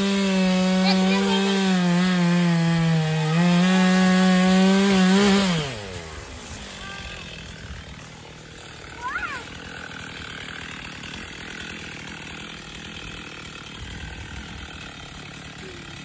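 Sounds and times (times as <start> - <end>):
chainsaw running at high revs: 0.0 - 16.0.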